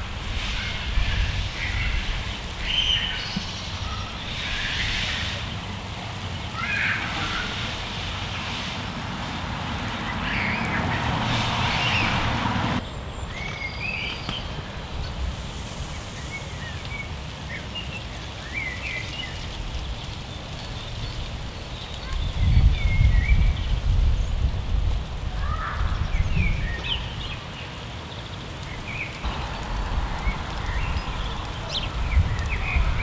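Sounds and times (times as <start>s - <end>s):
lawn sprinkler spray hissing: 0.0s - 33.0s
songbirds chirping: 0.0s - 33.0s.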